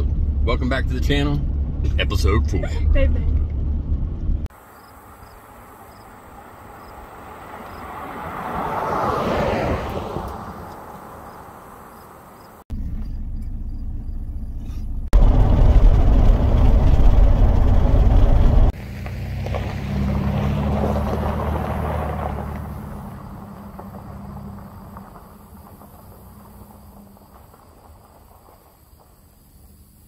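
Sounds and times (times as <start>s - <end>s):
low road rumble in cab: 0.0s - 7.8s, 9.9s - 30.0s
truck engine on gravel: 0.0s - 30.0s
truck passing road noise: 1.2s - 30.0s.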